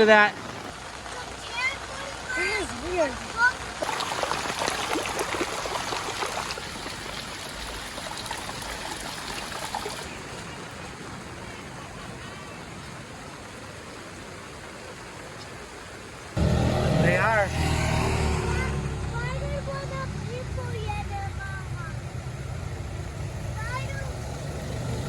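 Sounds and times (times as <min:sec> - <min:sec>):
rushing floodwater: 0:00.0 - 0:25.0.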